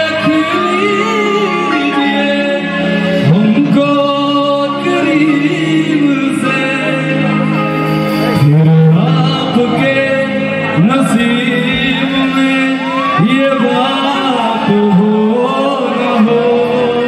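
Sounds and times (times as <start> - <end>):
instrumental backing: 0.0 - 17.0
man singing into microphone: 0.0 - 17.0.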